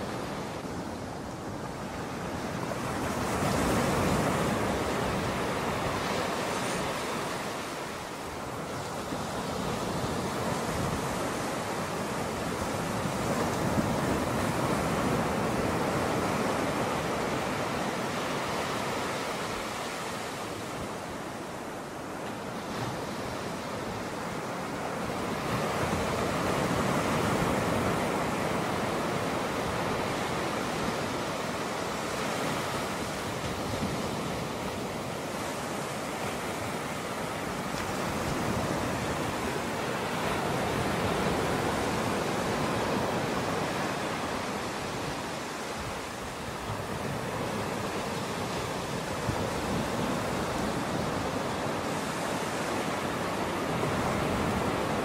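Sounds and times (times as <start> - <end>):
ocean surf washing ashore: 0.0 - 55.0.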